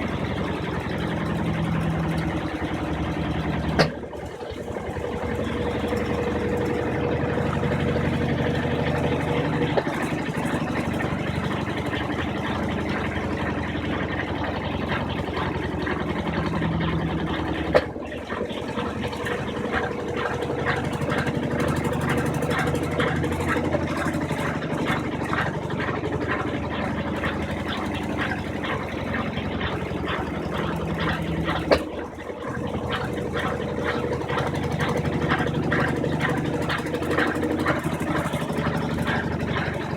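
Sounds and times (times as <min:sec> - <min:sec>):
washing machine drum spinning: 0:00.0 - 0:39.9.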